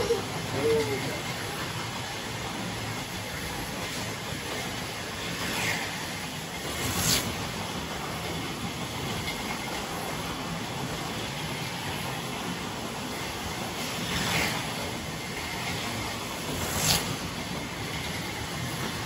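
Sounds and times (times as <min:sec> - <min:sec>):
slot cars whirring on track: 0:00.0 - 0:19.0.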